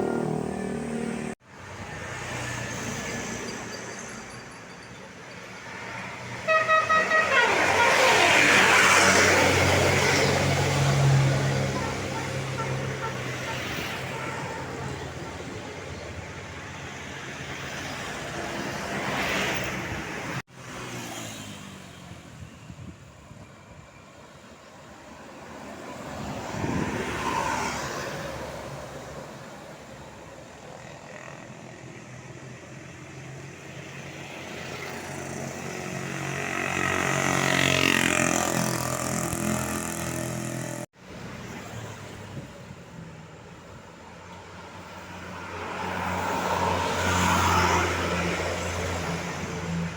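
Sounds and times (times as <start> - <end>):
road vehicles passing: 0.0 - 49.9.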